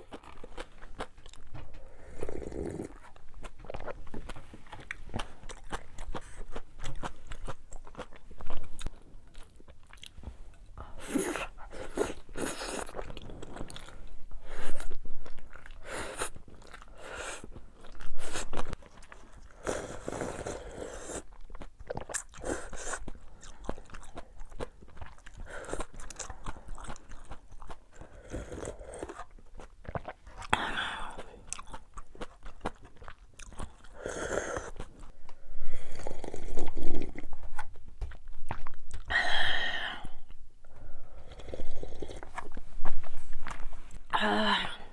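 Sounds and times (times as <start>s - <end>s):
wet chewing: 0.0s - 39.2s.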